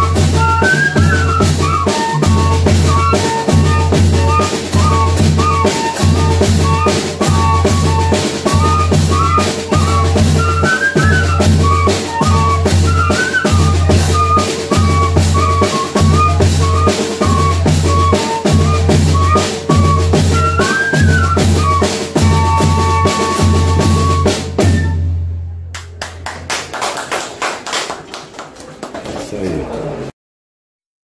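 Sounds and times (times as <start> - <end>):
bass drum and snare: 0.0 - 25.1
fife melody: 0.0 - 25.2.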